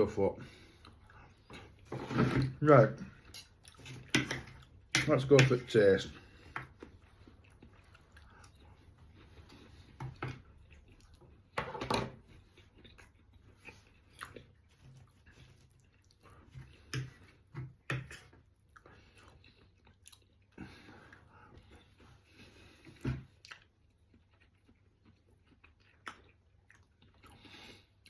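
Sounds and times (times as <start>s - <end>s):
person chewing: 3.1s - 4.9s, 6.2s - 11.6s, 12.2s - 28.0s.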